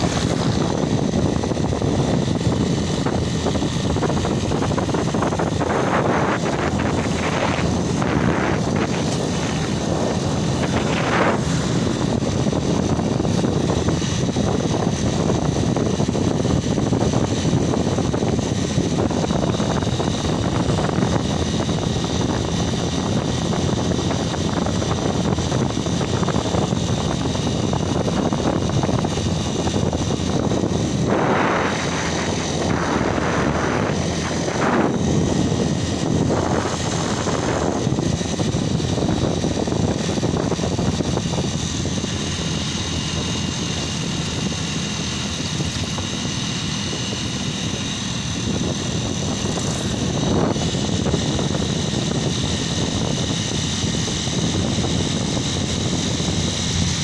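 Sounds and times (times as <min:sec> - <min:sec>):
engine drone: 0:00.0 - 0:57.0
rushing noise: 0:00.0 - 0:57.0.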